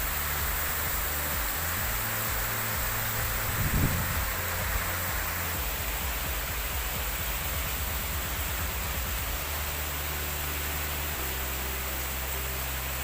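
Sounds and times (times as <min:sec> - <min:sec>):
hiss of heavy rain: 0:00.0 - 0:13.0
low rumble: 0:00.0 - 0:13.0.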